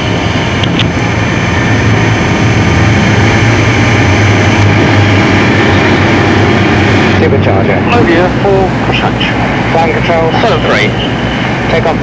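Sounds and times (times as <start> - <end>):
aircraft piston engines running: 0.0 - 12.0.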